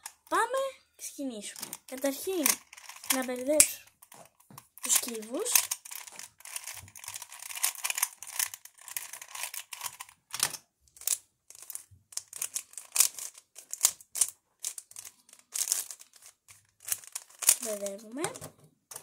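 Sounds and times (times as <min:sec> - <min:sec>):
puzzle cube clicking: 0:01.6 - 0:04.2, 0:04.8 - 0:19.0.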